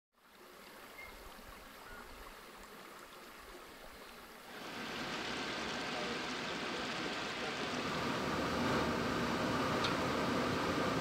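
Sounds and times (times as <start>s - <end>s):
flowing water rushing: 0.2s - 11.0s.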